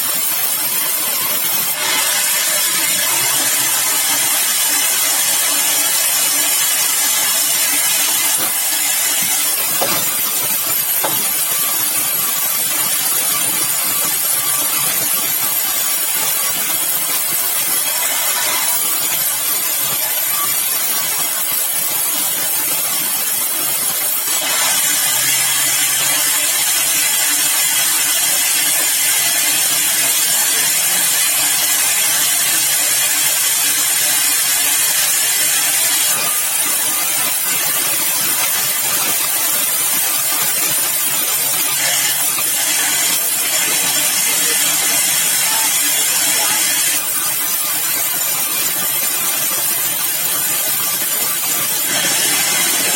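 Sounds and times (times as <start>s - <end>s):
sawmill machinery sawing wood: 0.0s - 52.9s.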